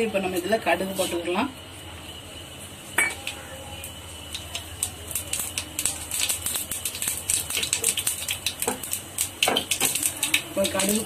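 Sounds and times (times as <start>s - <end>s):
mustard seeds sizzling in hot oil: 0.0s - 11.0s.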